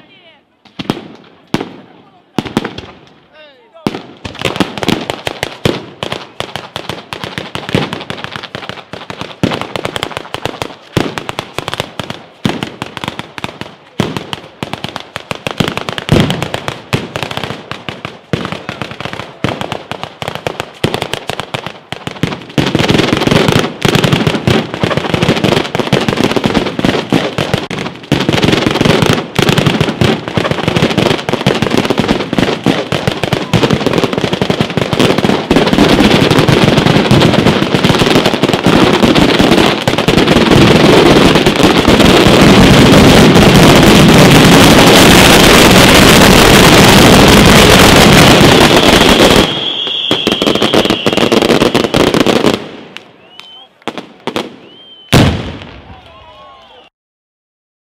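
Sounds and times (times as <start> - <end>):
firecrackers going off: 0.0 - 56.9.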